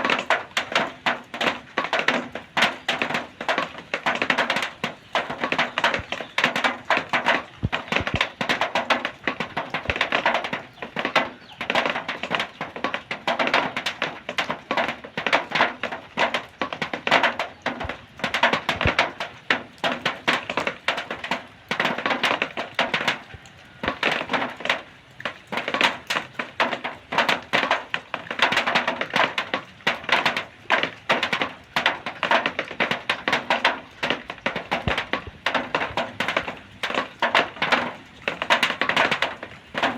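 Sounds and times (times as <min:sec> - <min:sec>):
rain pattering on sheet metal: 0:00.0 - 0:39.9.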